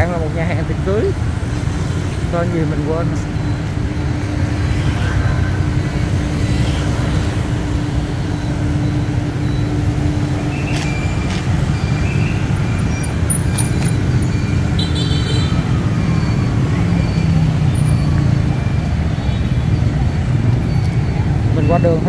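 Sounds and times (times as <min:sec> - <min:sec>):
road traffic rumble: 0:00.0 - 0:22.0
short high beeps: 0:02.4 - 0:22.0.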